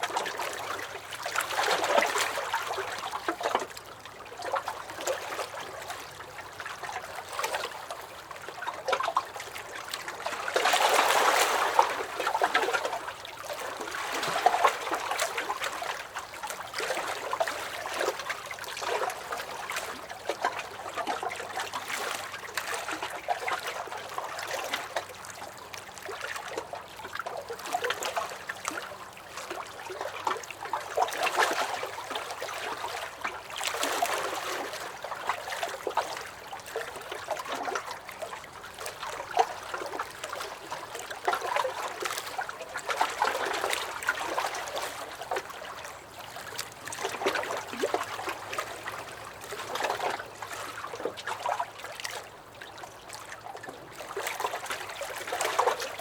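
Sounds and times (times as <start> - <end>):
waves lapping against a dock: 0.0 - 56.0.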